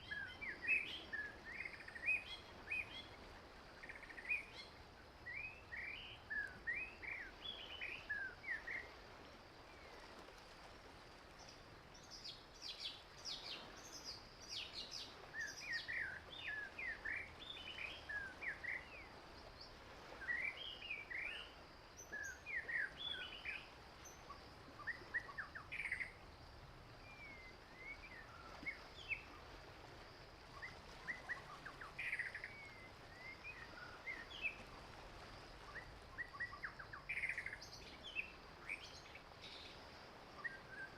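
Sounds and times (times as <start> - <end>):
faint steady hiss: 0.0 - 40.9
songbirds chirping: 0.0 - 40.9.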